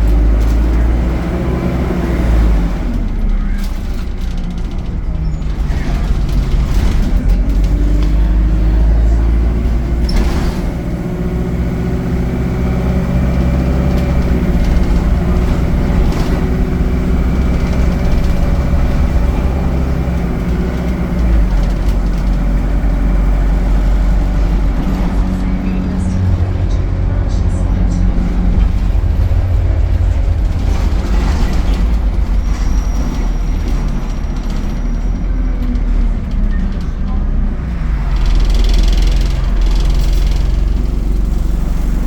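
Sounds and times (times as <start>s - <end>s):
bus diesel engine rumbling: 0.0s - 42.0s.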